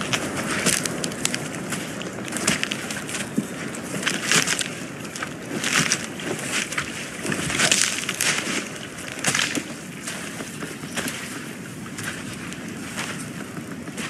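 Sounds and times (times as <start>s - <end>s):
twigs and leaves crunching: 0.0s - 11.3s.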